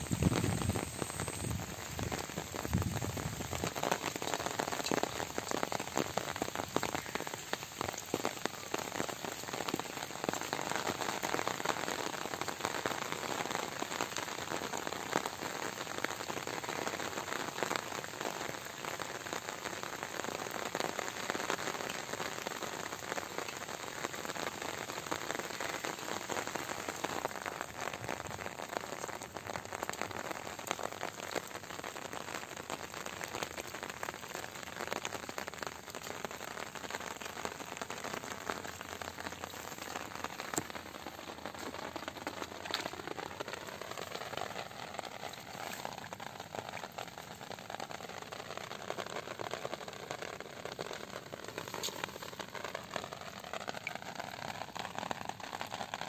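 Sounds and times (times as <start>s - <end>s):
rain on grass and water: 0.0s - 56.0s.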